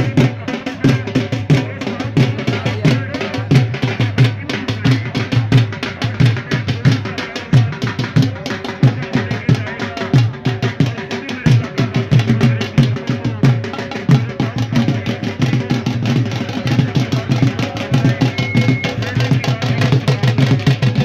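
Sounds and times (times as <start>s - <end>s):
dhol drums beaten: 0.0s - 21.0s.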